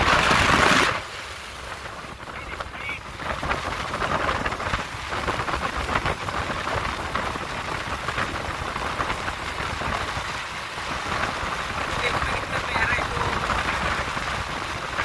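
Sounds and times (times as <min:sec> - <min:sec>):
engine and road rumble: 0:00.0 - 0:15.0
wind on microphone: 0:00.0 - 0:15.0.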